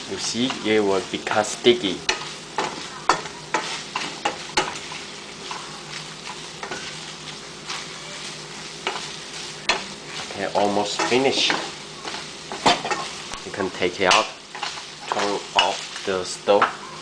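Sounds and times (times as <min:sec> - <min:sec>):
chicken sizzling in sauce: 0:00.0 - 0:17.0.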